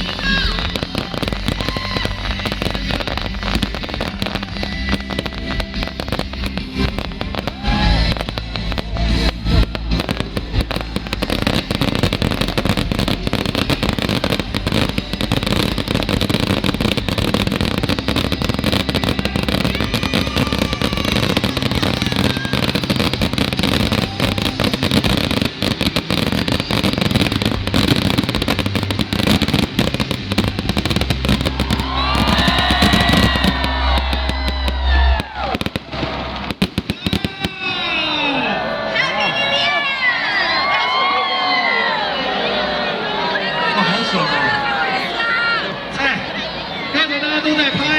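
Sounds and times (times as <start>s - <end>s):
fireworks bangs and crackles: 0.0s - 42.1s
whistling fireworks: 0.0s - 45.6s.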